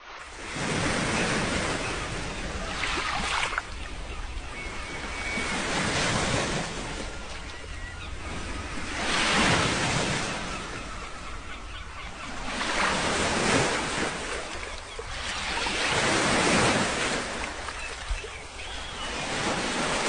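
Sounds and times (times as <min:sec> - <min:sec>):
sea waves breaking on shore: 0:00.0 - 0:20.0.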